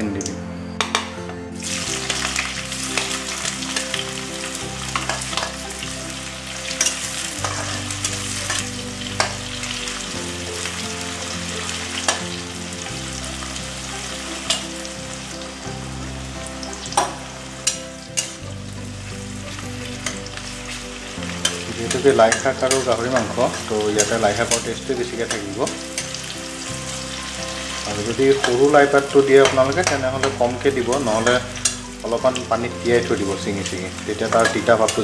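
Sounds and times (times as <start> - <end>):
onions sizzling in hot oil: 1.6 - 35.0
metal spatula scraping pan: 1.8 - 12.4, 13.1 - 14.8, 16.9 - 35.0.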